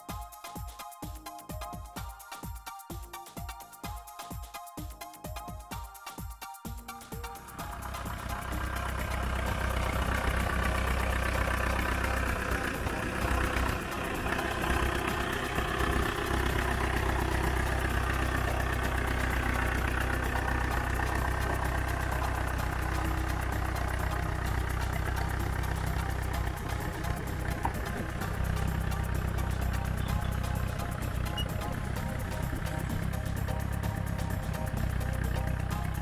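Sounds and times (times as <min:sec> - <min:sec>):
tractor engine idling: 0:06.8 - 0:36.0.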